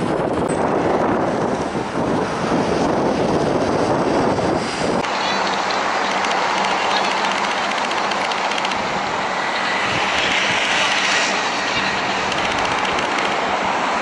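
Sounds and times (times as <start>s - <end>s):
passing road traffic: 0.0s - 14.0s.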